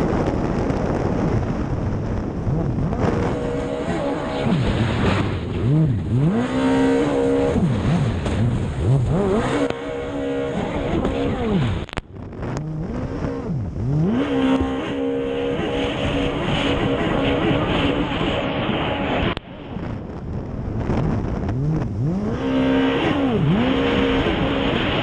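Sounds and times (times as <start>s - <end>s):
jet ski engine revving: 2.2s - 19.7s, 20.8s - 25.0s.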